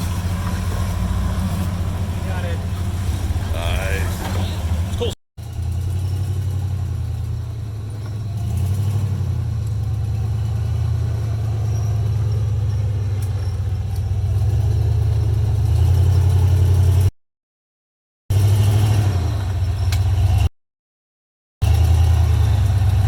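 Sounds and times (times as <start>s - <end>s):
engine running: 0.0s - 17.1s, 21.6s - 23.0s.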